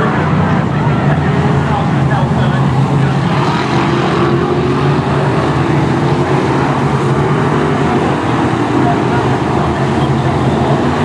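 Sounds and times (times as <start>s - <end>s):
racing car engines blaring: 0.0s - 11.0s.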